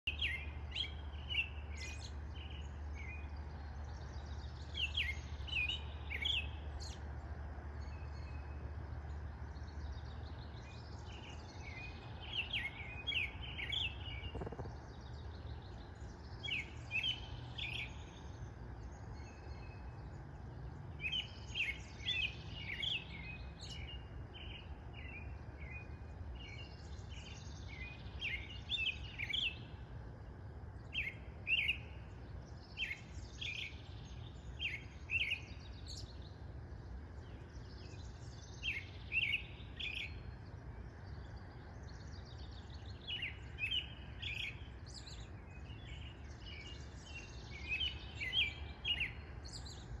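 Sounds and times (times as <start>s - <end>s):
bird singing whistled notes: 0.0s - 7.1s, 7.8s - 8.7s, 9.4s - 29.8s, 30.8s - 50.0s
low background rumble: 0.4s - 50.0s.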